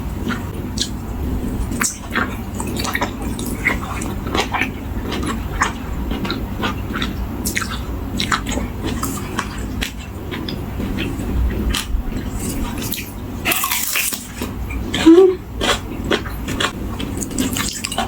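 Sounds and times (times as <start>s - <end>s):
steady low hum: 0.0s - 18.0s
wet chewing and lip smacks: 0.2s - 1.0s, 1.7s - 18.0s.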